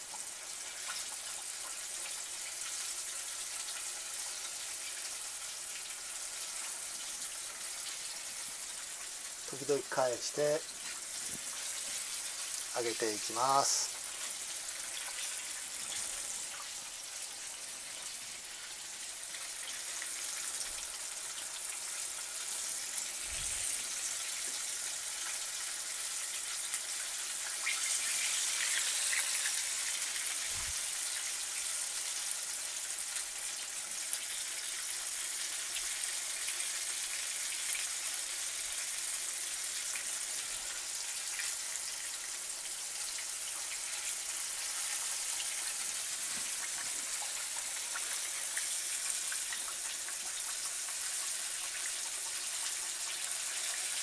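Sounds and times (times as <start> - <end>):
chicken deep-frying in oil: 0.0 - 54.0.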